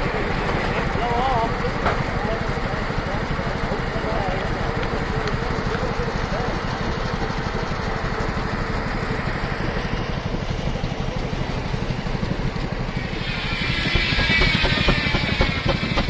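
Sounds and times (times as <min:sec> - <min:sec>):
steam engine running circular saw: 0:00.0 - 0:16.0.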